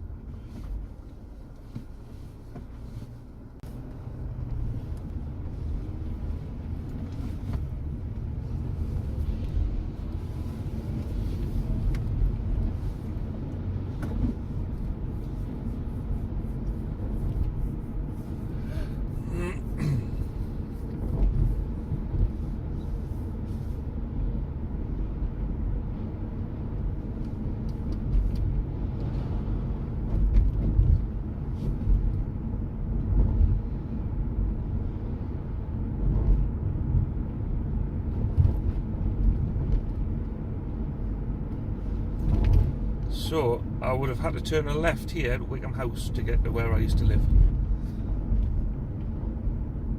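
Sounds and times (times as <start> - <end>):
car engine and tyres rumbling: 0.0 - 49.9.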